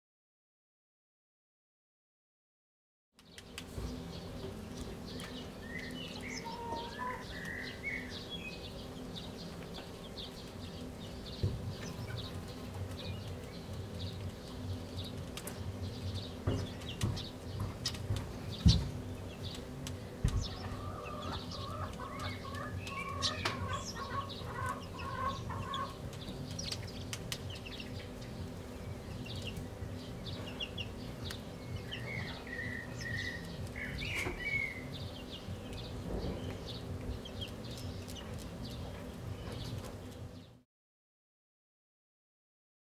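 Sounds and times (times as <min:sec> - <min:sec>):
faint steady hum: 0:03.2 - 0:40.5
songbirds chirping: 0:03.2 - 0:40.6.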